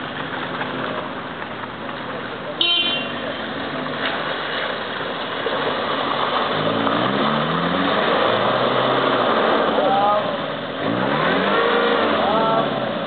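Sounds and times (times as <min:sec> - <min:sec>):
engine labouring and revving: 0:00.0 - 0:13.0.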